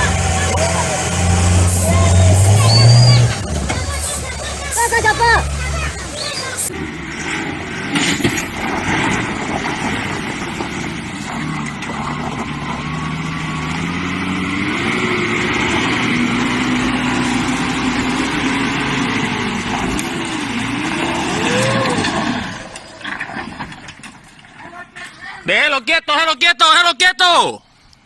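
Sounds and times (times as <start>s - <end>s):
vehicle engine revving: 0.0s - 23.6s
road noise: 0.0s - 28.0s.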